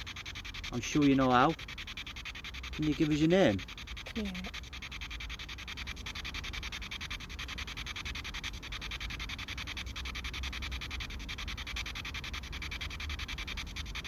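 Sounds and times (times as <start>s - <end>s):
pulsing radio static: 0.0s - 14.0s.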